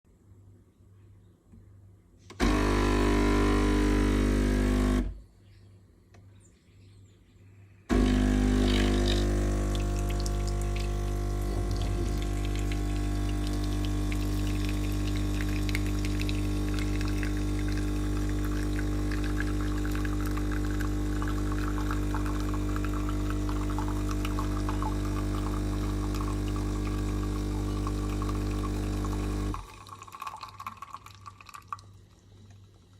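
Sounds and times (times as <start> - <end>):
coffee machine pump humming: 2.3 - 5.2, 7.9 - 32.9
coffee running into cup: 2.4 - 5.1, 7.9 - 32.9.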